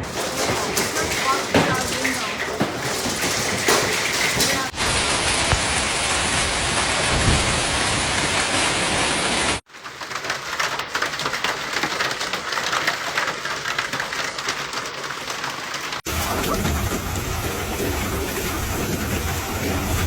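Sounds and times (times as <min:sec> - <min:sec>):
hail roaring: 0:00.0 - 0:20.0
hailstones pattering: 0:00.0 - 0:20.0.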